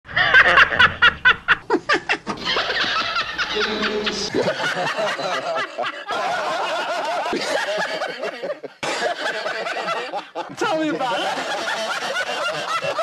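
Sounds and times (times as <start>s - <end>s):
man laughing: 0.2s - 13.0s.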